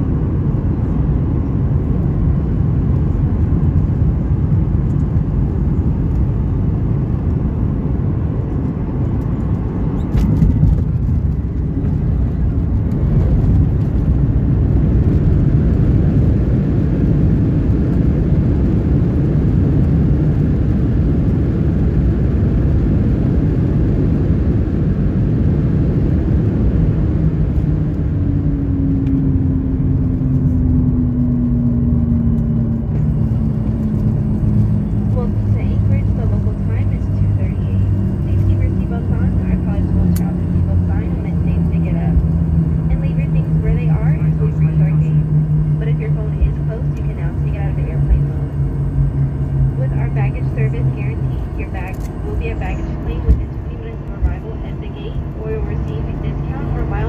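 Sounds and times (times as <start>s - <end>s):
airplane cabin airflow and engine: 0.0s - 57.0s.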